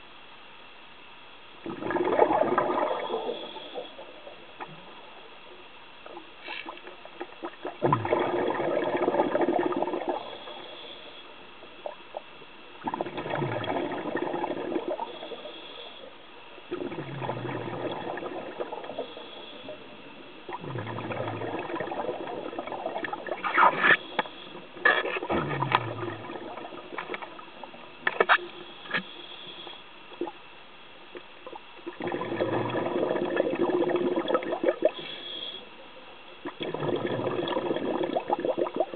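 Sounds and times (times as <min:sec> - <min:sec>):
exhaled breath bubbling underwater: 0:01.6 - 0:05.0, 0:06.4 - 0:12.0, 0:12.8 - 0:30.4, 0:31.4 - 0:35.8, 0:36.4 - 0:38.9.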